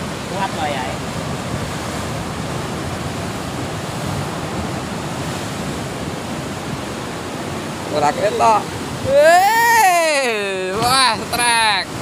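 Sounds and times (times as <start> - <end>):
waves breaking on rocky shore: 0.0 - 12.0.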